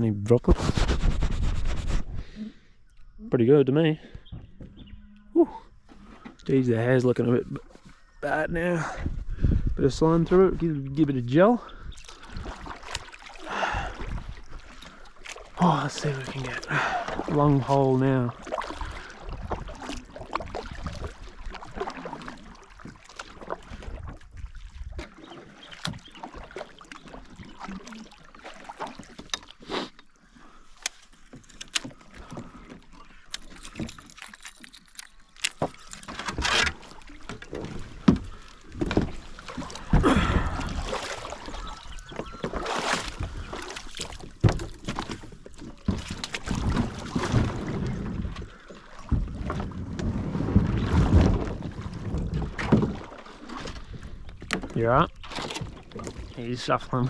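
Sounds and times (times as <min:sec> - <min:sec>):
water splashing: 0:10.0 - 0:57.0.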